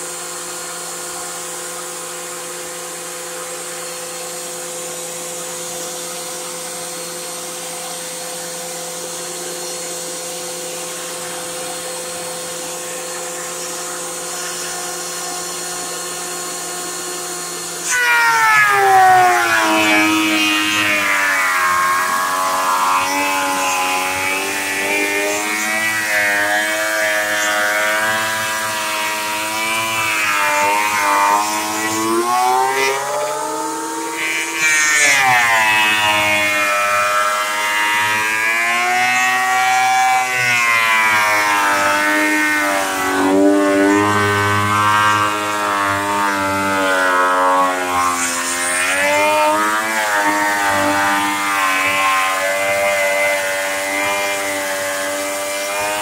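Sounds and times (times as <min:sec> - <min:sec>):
thickness planer planing wood: 0:00.0 - 0:56.0.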